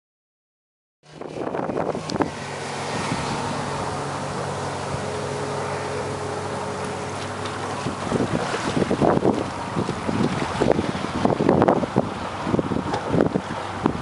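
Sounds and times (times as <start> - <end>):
outboard motor running steadily: 1.0 - 14.0
wind buffeting microphone: 1.1 - 14.0.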